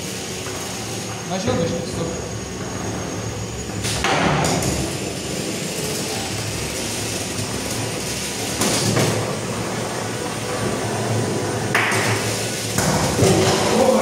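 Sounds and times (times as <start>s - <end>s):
whir of spinning drums: 0.0s - 14.0s.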